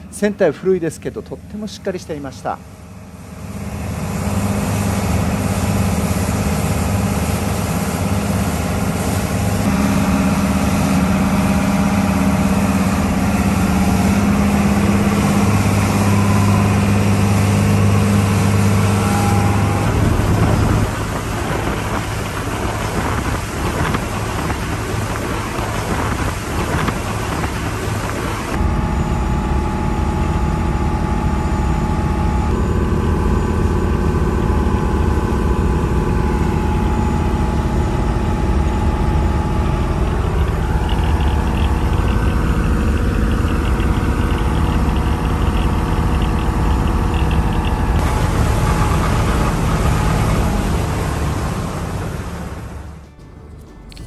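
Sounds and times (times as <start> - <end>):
marine diesel engine drone: 0.0 - 54.0
water rushing along hull: 2.2 - 31.3, 31.9 - 53.1.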